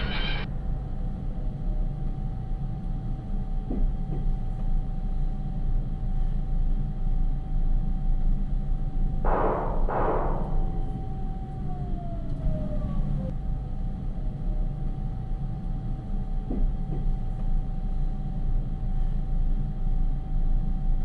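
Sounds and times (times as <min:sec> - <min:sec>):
mid-pitched hum: 0:00.0 - 0:21.0
train carriage rumble: 0:00.0 - 0:21.0.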